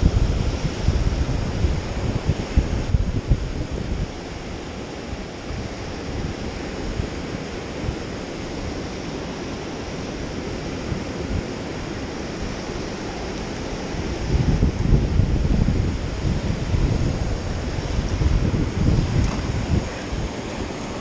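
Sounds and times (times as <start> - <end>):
ocean surf washing onto sand: 0.0 - 21.0
wind buffeting microphone: 0.0 - 21.0.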